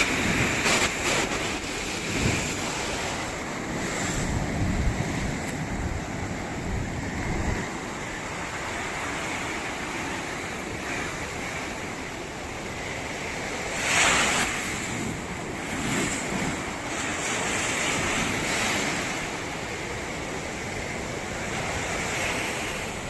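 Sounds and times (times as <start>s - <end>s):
ocean surf washing onto beach: 0.0s - 23.0s
wave breaking: 0.0s - 23.0s
wind rumbling on microphone: 0.0s - 23.0s.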